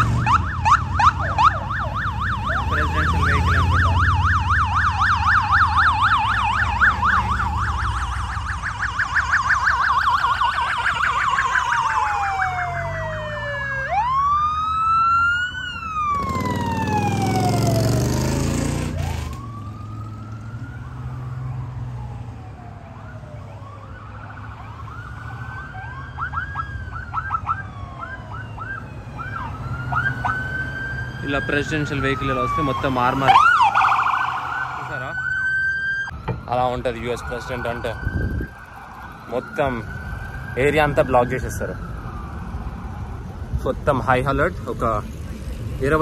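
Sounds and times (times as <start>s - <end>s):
motorcycle and car engines: 0.0s - 46.0s
police sirens: 0.0s - 46.0s.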